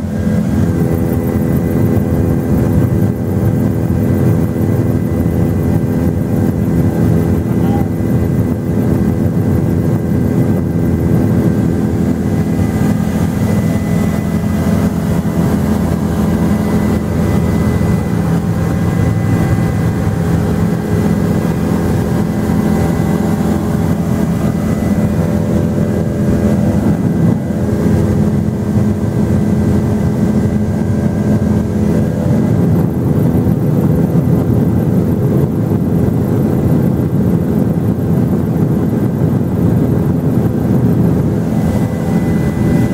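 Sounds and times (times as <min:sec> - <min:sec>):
constant tones: 0:00.0 - 0:42.9
helicopter engine and rotor noise: 0:00.0 - 0:42.9.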